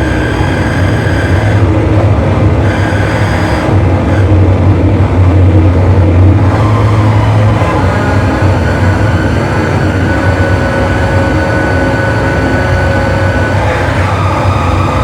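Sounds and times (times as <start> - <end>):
loud distorted electronic drone: 0.0 - 15.0.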